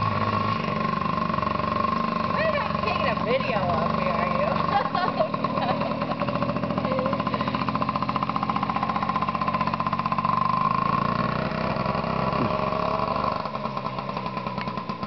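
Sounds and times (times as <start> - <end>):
minibike engine running: 0.0 - 15.0.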